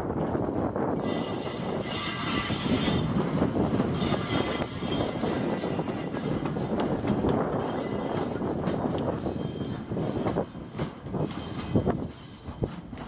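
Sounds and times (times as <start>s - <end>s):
train wheels clattering on rails: 0.1s - 13.0s.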